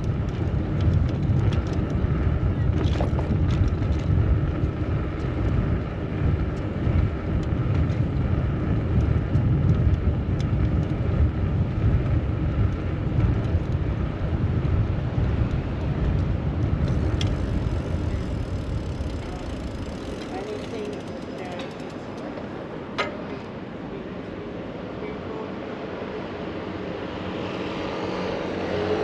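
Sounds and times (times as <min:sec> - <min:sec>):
traffic noise: 0:00.0 - 0:29.0
wind rumble on microphone: 0:00.0 - 0:29.0.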